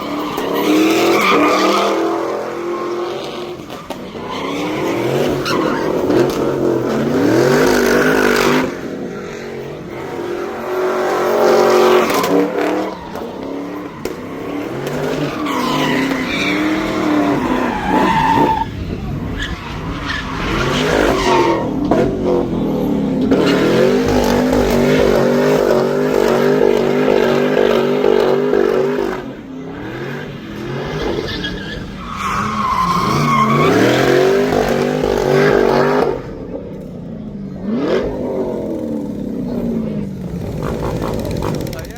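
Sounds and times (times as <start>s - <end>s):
car engine revving: 0.0s - 41.9s
tires squealing: 0.0s - 41.9s.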